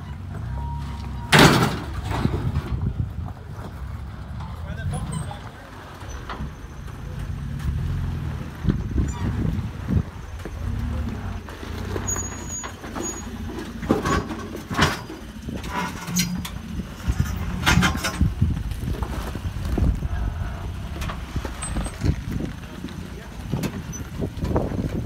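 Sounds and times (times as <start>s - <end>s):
truck engine running low: 0.0s - 25.0s.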